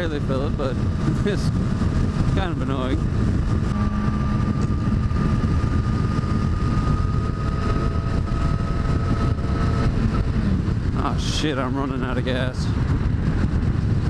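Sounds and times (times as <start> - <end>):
thin steady whine: 0.0 - 12.4
motorcycle engine running: 0.0 - 14.0
wind and road noise: 0.0 - 14.0.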